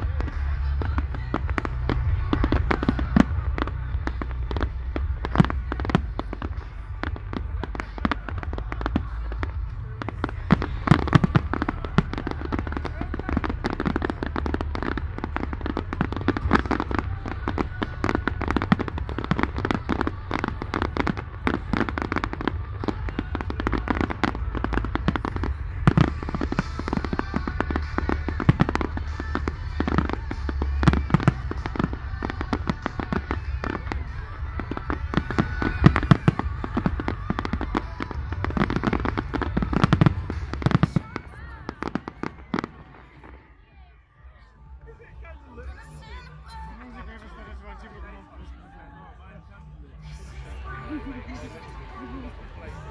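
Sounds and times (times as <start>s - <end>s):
fireworks bangs and crackles: 0.0s - 43.6s.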